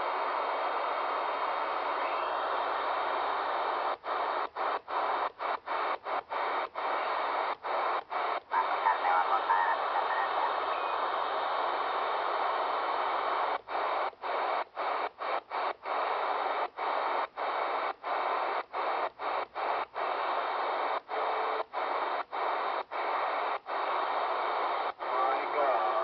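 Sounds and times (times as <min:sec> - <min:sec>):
radio receiver static hiss: 0:00.0 - 0:26.0.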